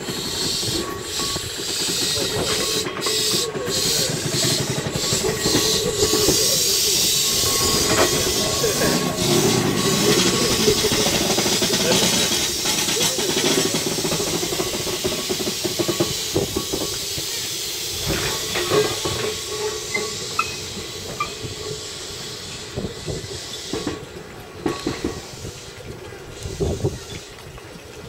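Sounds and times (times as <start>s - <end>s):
train car rolling with hiss: 0.0s - 28.0s
wheels clanking over rail joints: 0.0s - 28.0s
short wheel squeaks: 0.2s - 17.2s, 18.0s - 24.0s.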